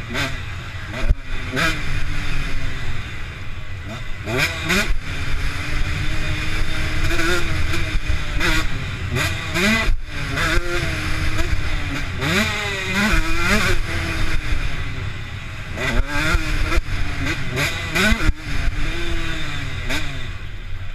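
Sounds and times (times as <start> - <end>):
motocross bike engine revving: 0.0 - 20.9.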